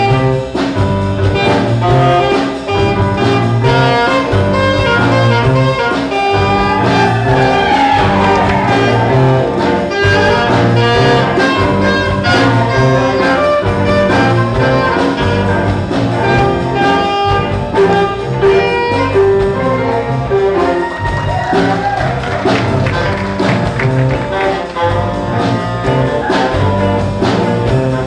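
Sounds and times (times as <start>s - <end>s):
school band playing: 0.0s - 28.0s.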